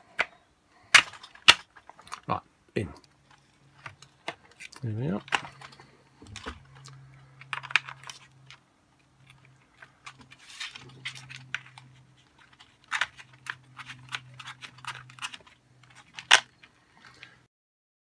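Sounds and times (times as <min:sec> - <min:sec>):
low steady hum: 0:00.0 - 0:17.4
plastic parts clicking and rattling: 0:00.1 - 0:02.4, 0:03.0 - 0:17.4.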